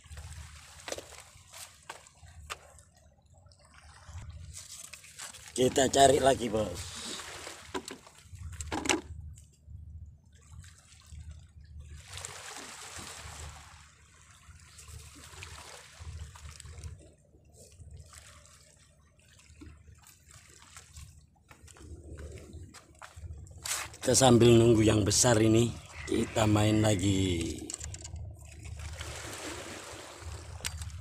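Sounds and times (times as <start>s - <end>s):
waves lapping against rocks: 0.0s - 2.9s, 3.6s - 8.8s, 10.5s - 31.0s.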